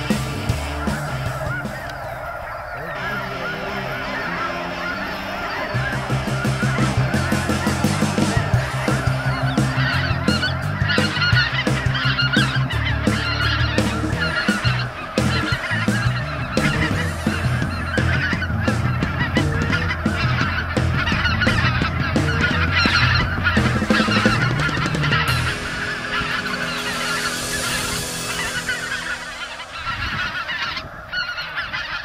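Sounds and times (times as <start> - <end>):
geese honking: 0.0 - 32.0.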